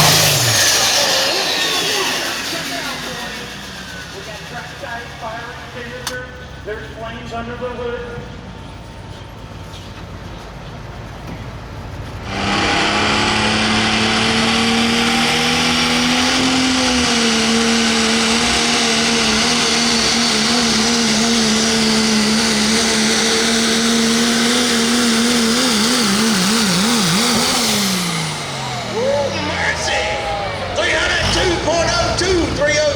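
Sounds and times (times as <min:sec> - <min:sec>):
engine at full throttle: 0:00.0 - 0:32.9.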